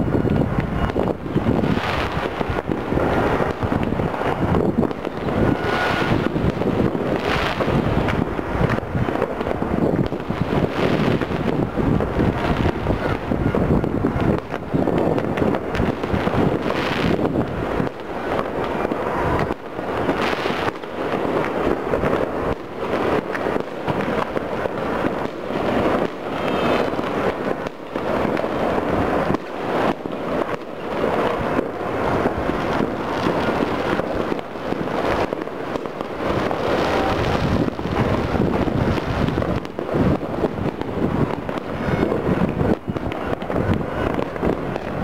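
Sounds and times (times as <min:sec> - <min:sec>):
fireworks and firecrackers crackling: 0:00.0 - 0:45.0.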